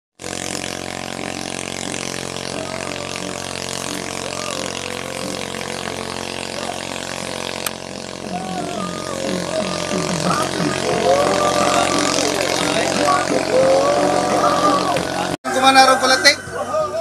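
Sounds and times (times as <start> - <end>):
small boat engine running: 0.2 - 17.0.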